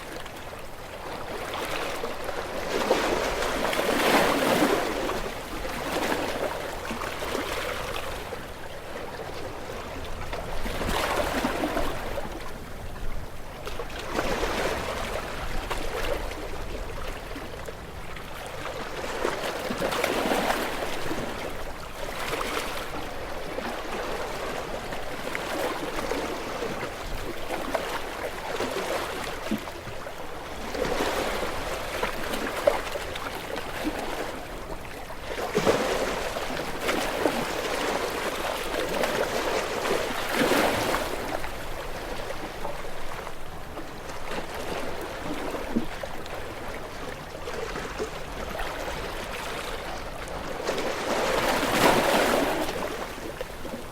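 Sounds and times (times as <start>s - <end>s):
small waves washing onto shore: 0.0s - 53.9s.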